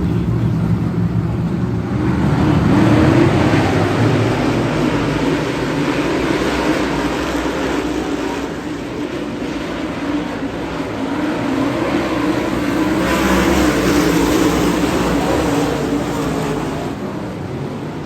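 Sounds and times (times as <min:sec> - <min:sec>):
race car engines at speed: 0:00.0 - 0:18.0.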